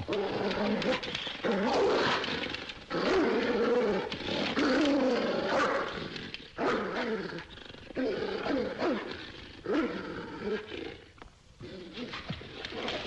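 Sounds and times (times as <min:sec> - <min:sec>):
dog growling: 0:00.0 - 0:13.0.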